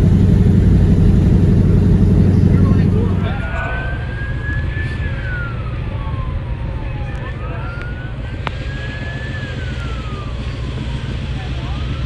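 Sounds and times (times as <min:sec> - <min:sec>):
low vehicle rumble: 0:00.0 - 0:12.0
siren wailing: 0:00.0 - 0:12.0.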